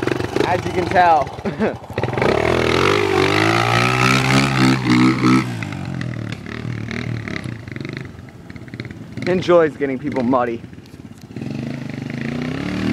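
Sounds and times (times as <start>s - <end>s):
dirt bike engine revving: 0.0s - 12.9s.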